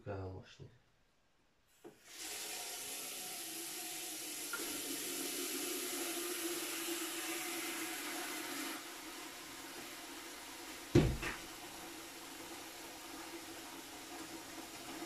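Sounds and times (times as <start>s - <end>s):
tap running water into basin: 1.8s - 15.0s.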